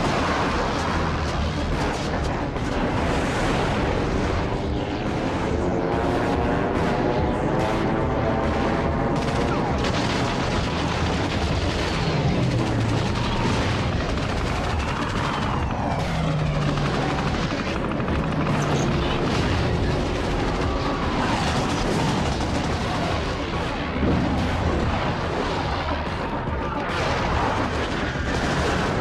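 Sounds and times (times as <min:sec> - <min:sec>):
gunfire: 0:00.0 - 0:05.4, 0:06.0 - 0:29.0
aircraft engines droning: 0:00.0 - 0:26.9.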